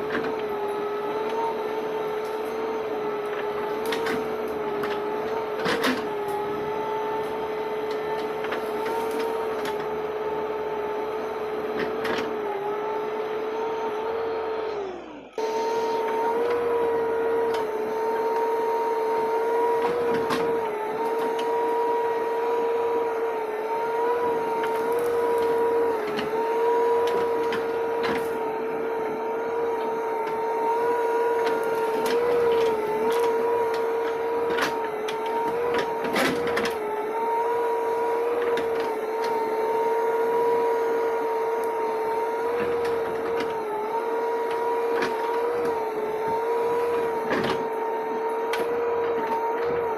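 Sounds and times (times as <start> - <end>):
backhoe loader whine: 0.0 - 49.9.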